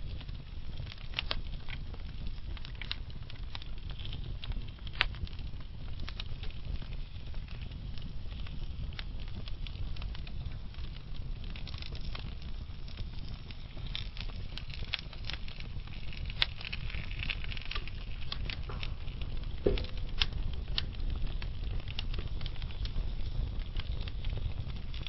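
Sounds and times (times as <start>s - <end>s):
burning logs crackling: 0.0s - 25.0s
low rumble of flames: 0.0s - 25.0s.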